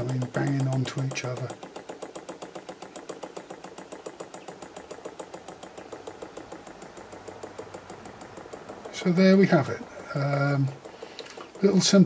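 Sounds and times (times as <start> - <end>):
stirling engine knocking rapidly: 0.0 - 12.0.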